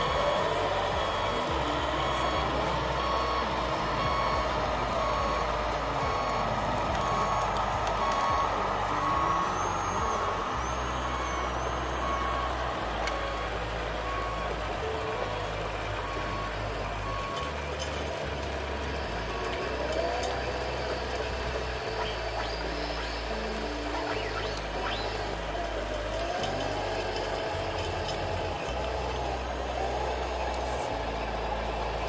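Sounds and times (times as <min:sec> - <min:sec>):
low hum: 0:00.0 - 0:32.0
reversing beeper: 0:00.0 - 0:32.0.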